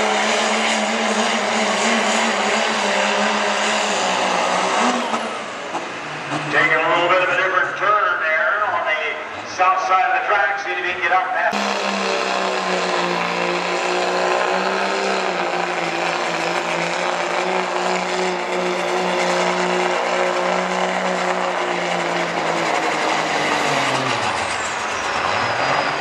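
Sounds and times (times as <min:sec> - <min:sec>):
pickup truck engine revving: 0:00.0 - 0:07.9, 0:11.5 - 0:26.0
high turbo whine: 0:00.0 - 0:26.0.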